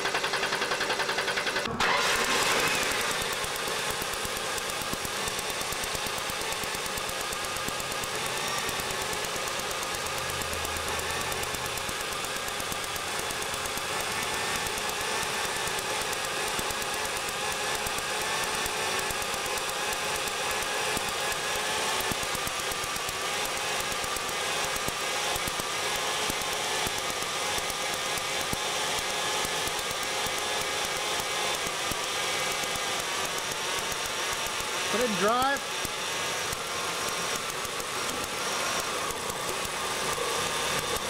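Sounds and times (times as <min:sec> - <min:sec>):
car engine idling with a misfire: 0:00.0 - 0:41.0.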